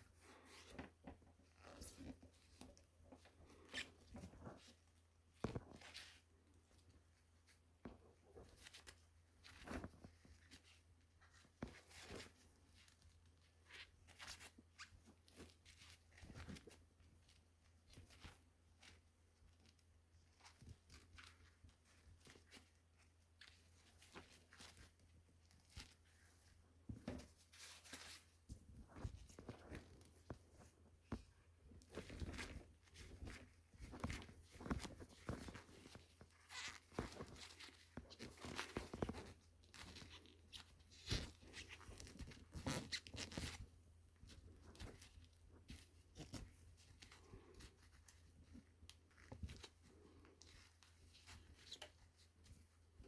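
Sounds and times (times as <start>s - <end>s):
rustling of wires: 0.0s - 53.0s.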